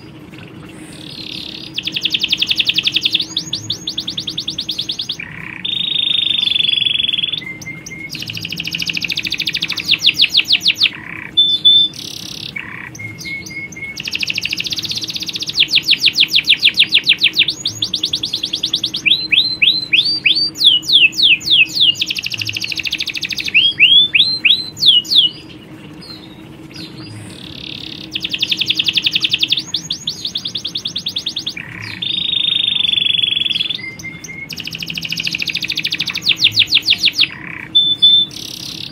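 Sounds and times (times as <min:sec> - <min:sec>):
canaries singing trills: 0:00.0 - 0:38.9.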